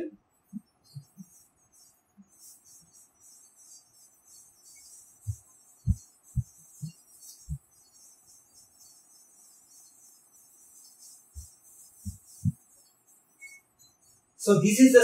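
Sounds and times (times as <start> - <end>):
faint high hiss: 0.0 - 15.0.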